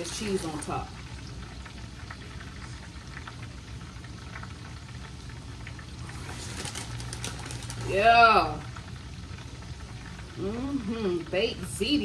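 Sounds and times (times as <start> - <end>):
chicken wings sizzling: 0.0 - 12.0.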